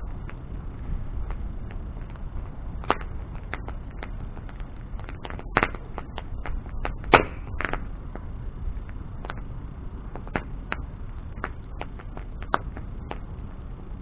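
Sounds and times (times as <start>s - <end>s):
bonfire crackling: 0.0s - 14.0s
fire popping: 0.0s - 14.0s
low steady rumble: 0.0s - 14.0s.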